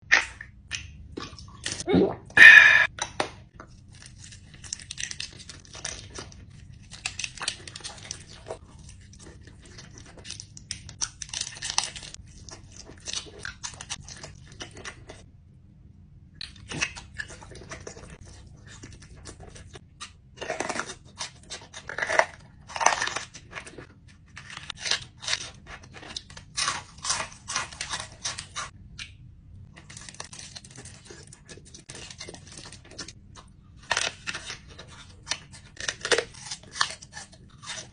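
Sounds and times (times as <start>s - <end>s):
person chewing crunchy food: 3.6s - 15.2s, 16.4s - 29.2s, 29.8s - 37.9s.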